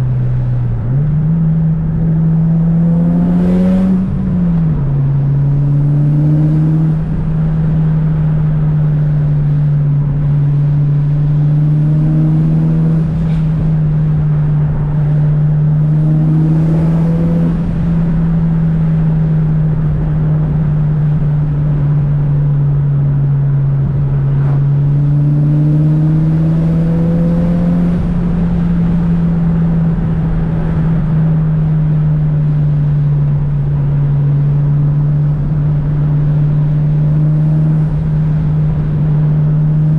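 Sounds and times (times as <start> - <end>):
car engine cruising drone: 0.0 - 39.9.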